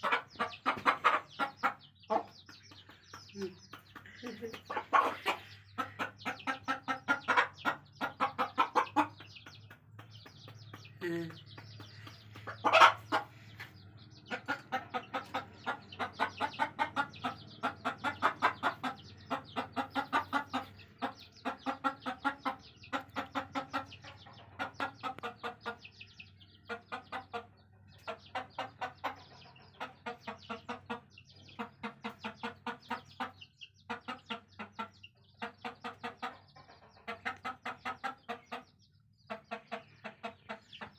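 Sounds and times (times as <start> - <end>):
hen clucking: 0.0 - 40.9.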